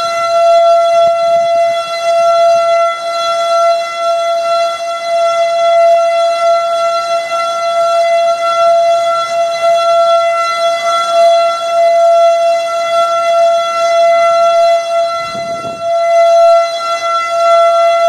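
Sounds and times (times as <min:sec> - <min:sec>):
tornado warning siren: 0:00.0 - 0:18.0.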